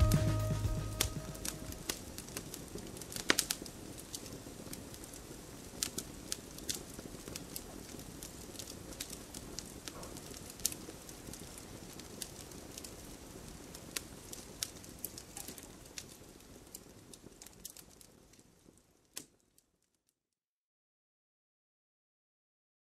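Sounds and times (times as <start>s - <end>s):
soft hiss: 0.0s - 19.4s
faint crackling with clicks: 1.5s - 20.2s.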